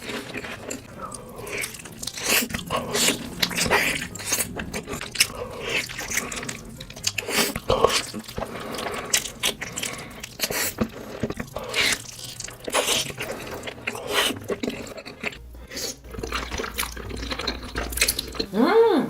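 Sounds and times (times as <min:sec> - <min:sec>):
food crunching: 0:00.0 - 0:18.5
wet chewing and mouth smacks: 0:00.0 - 0:18.5.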